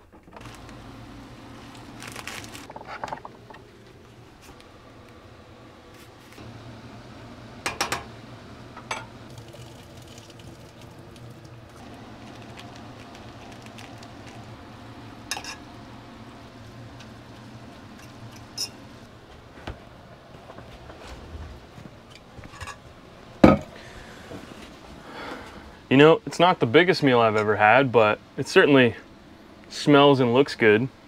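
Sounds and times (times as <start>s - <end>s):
low hiss and hum: 0.0s - 31.0s.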